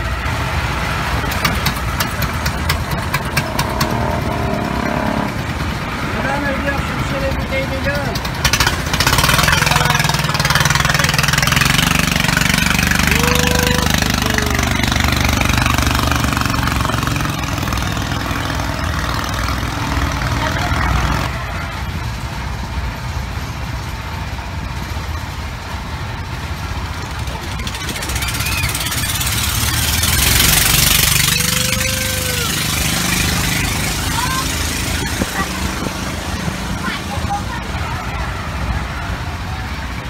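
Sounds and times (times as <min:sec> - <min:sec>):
motor boat engine drone: 0:00.0 - 0:40.0.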